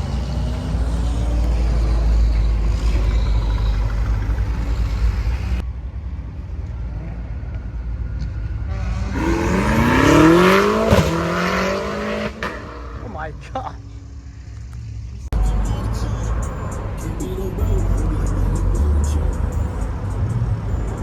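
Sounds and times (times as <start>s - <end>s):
car engine revving: 0.0s - 5.7s, 6.8s - 21.0s.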